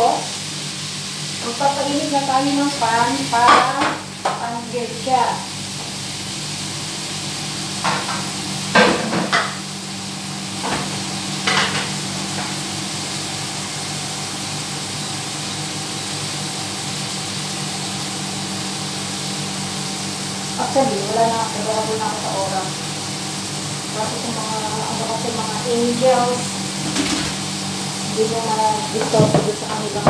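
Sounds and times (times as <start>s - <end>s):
sauce sizzling in a pan: 0.0s - 30.0s.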